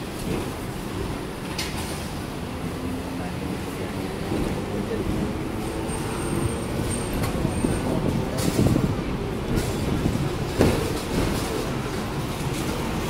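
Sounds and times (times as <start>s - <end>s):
sharp clacks of wheels: 0.0s - 2.4s, 4.2s - 13.0s
tram rumble and rattle: 0.0s - 13.0s.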